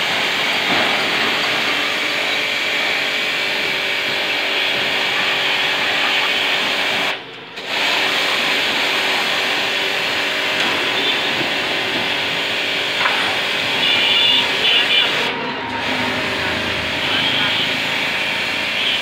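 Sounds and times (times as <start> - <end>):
pressure washer spray hissing: 0.0 - 19.0
pump motor humming: 0.0 - 19.0.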